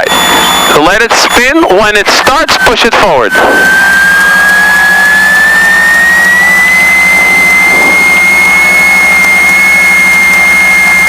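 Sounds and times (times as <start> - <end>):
low drone: 0.0 - 0.8, 2.5 - 11.0
engine starter whine: 0.0 - 11.0.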